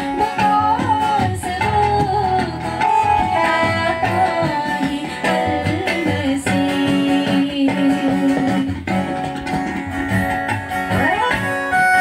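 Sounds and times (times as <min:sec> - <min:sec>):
woman singing into microphone: 0:00.0 - 0:09.2, 0:10.9 - 0:12.0
keyboard: 0:00.0 - 0:12.0.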